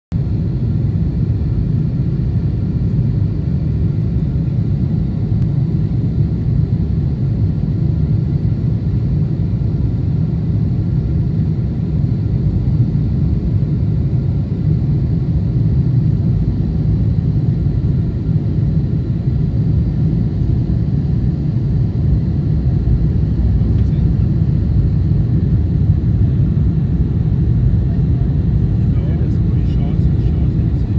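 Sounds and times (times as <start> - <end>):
jet engines rumbling in cabin: 0.1 - 30.9.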